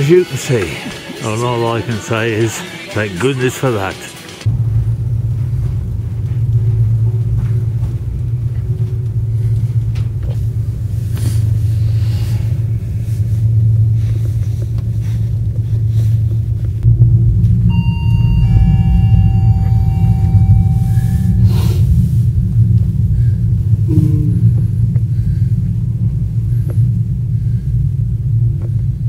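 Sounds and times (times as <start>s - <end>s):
cable car cabin rumble: 3.5s - 29.0s.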